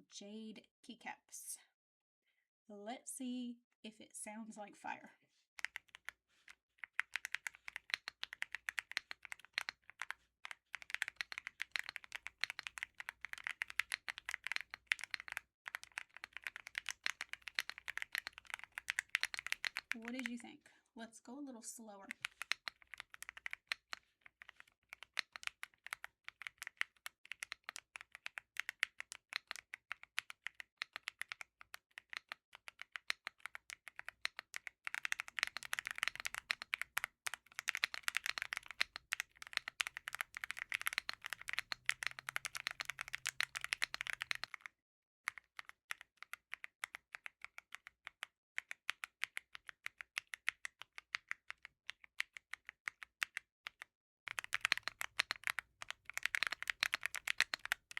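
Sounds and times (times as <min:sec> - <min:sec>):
mechanical keyboard typing: 0:05.6 - 0:20.5, 0:22.1 - 0:44.7, 0:45.3 - 0:57.9.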